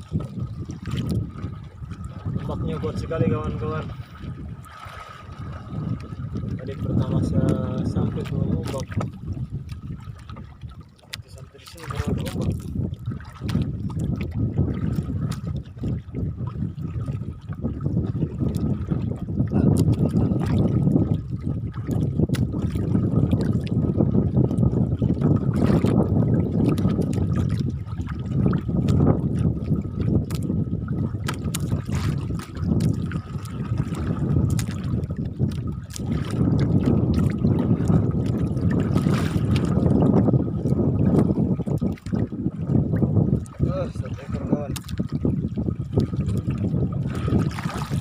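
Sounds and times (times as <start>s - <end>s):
waves slapping against boat hull: 0.0s - 48.0s
wind buffeting microphone: 0.0s - 48.0s.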